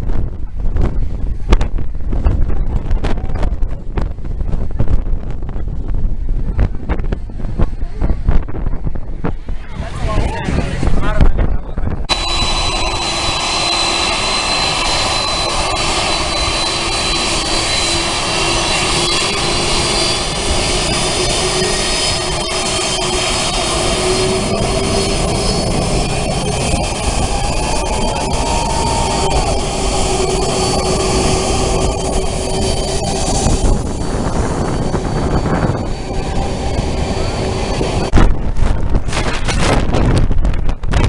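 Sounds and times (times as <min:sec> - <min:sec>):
jet engines rumbling and whining: 0:00.0 - 0:41.0.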